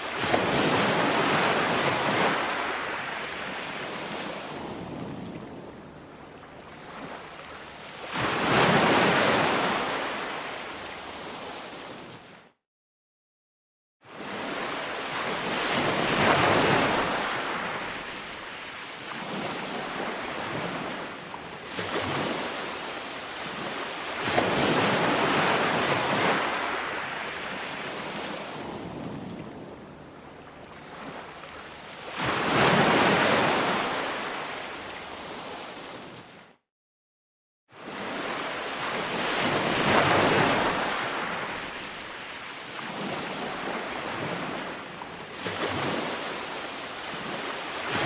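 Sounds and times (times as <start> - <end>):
ocean waves breaking on shore: 0.0 - 12.6, 14.0 - 36.6, 37.7 - 48.0.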